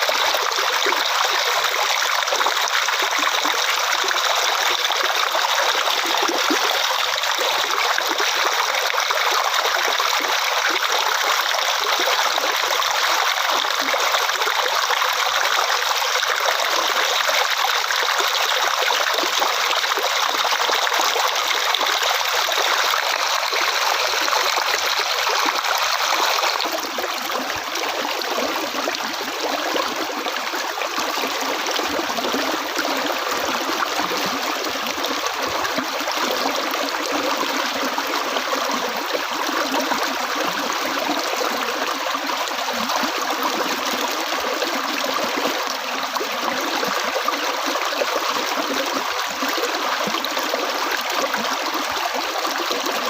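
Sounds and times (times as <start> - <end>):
flowing water: 0.0 - 53.0.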